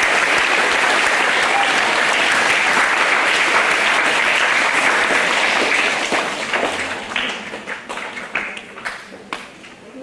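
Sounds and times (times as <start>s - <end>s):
children applauding: 0.0s - 9.0s.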